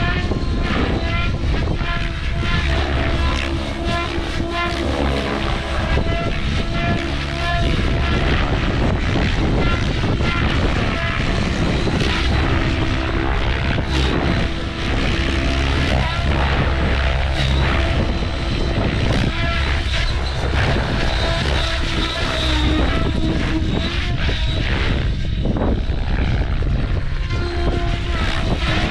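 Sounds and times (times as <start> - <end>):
model helicopter rotor: 0.0 - 28.9
wind buffeting microphone: 0.0 - 28.9.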